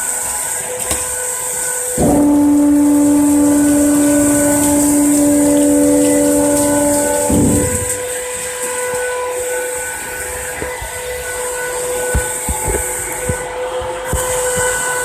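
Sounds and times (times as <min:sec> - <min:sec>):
engraving machine spindle whine: 0:01.3 - 0:15.0.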